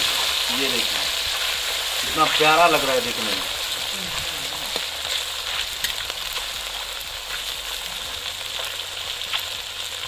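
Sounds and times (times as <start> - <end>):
fish deep-frying in oil: 0.0 - 10.0
oil popping and crackling: 0.0 - 10.0.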